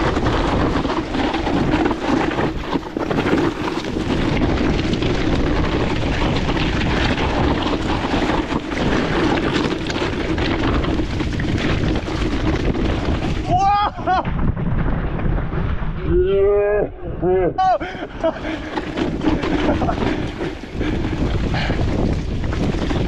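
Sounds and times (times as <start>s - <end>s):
bike knocks and rattles: 0.0s - 15.6s, 18.0s - 23.0s
tyres over dirt and stones: 0.0s - 16.6s, 17.6s - 23.0s
wind rumble on microphone: 0.0s - 23.0s.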